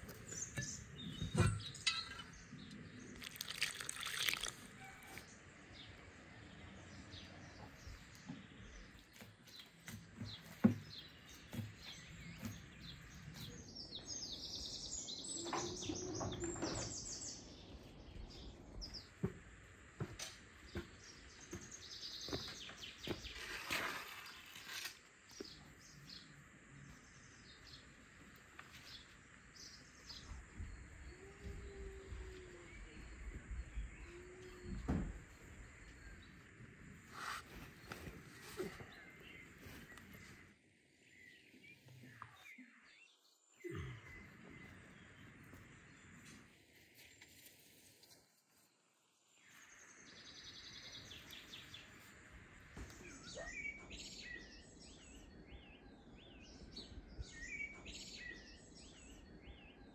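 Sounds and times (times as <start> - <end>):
songbirds chirping and singing: 0.0 - 3.8, 4.7 - 47.4, 49.3 - 59.9.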